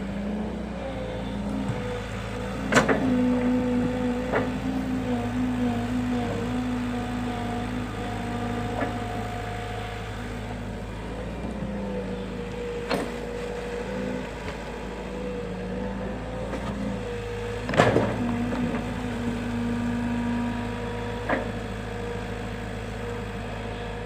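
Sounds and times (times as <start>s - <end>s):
excavator engine whining: 0.0s - 24.0s.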